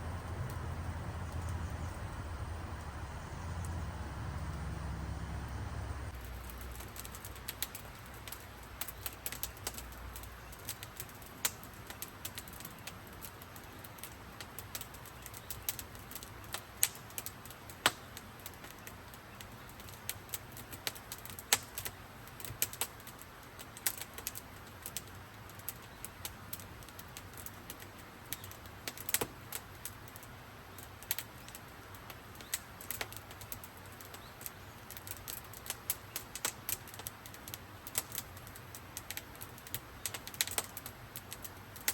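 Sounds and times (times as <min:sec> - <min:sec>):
sharp pops and snaps of fire: 0:00.0 - 0:41.9
wood fire crackling: 0:00.0 - 0:41.9.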